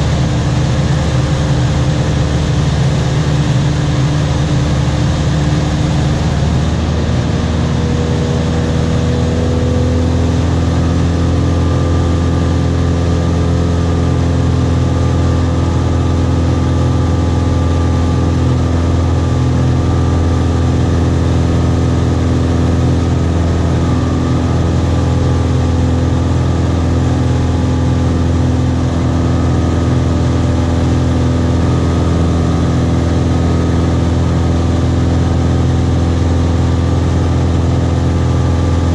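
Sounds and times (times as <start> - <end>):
light aircraft engine droning: 0.0 - 38.9.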